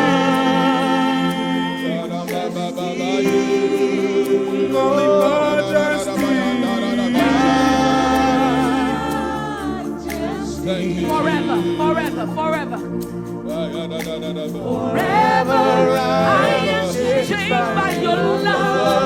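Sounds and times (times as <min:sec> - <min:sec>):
gospel voices singing long notes: 0:00.0 - 0:19.0
sustained chords: 0:00.0 - 0:19.0.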